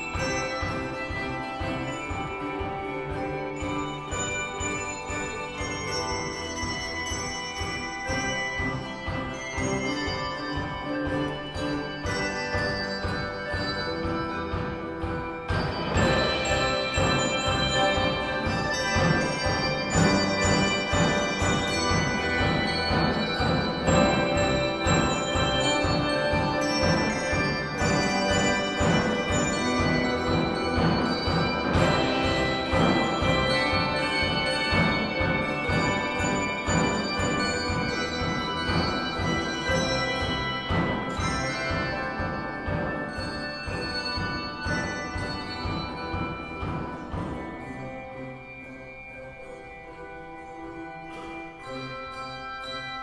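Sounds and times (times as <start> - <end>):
handbell choir playing: 0.0 - 53.0.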